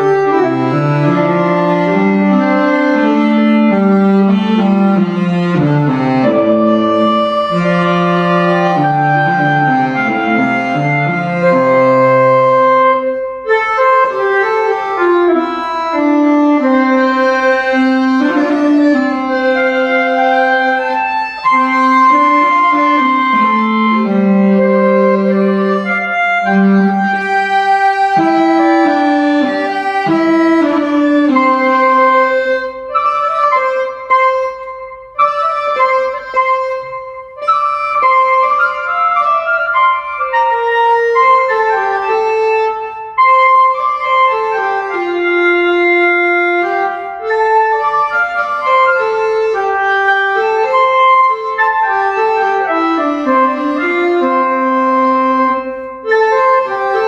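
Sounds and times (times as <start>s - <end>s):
woodwind ensemble playing melody: 0.0s - 57.0s.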